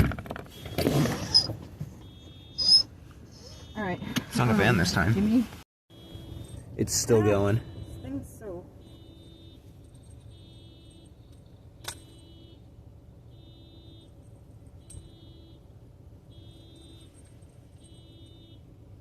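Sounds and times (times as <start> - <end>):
car alarm blasts: 0.5 - 4.6, 5.9 - 19.0.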